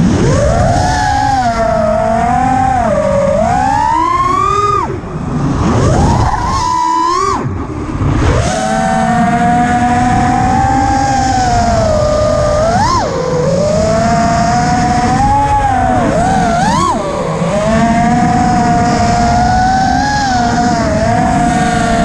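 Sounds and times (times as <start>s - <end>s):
low rushing noise: 0.0s - 22.0s
quadcopter motors whining: 0.0s - 22.0s.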